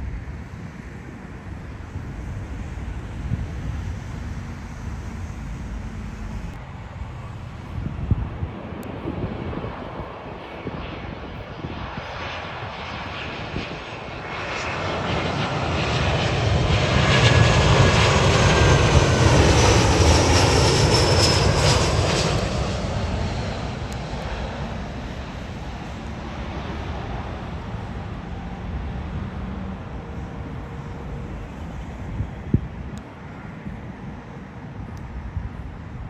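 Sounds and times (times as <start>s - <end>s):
jet airliner passing: 0.0s - 36.0s.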